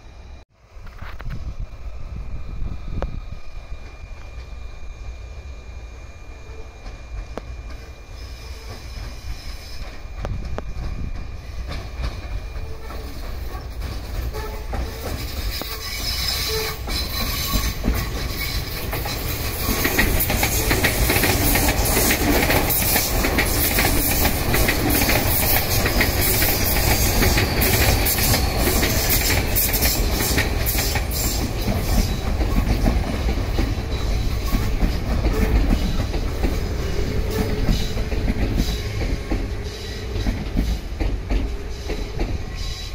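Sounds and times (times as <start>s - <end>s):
electric train passing: 0.0s - 42.9s
wheels clacking over rail joints: 6.8s - 42.8s.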